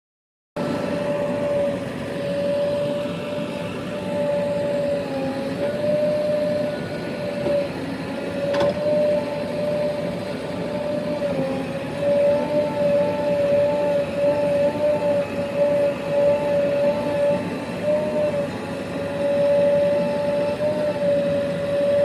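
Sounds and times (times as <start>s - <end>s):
backhoe loader engine running: 0.6s - 22.0s
steady mechanical whine: 0.6s - 22.0s.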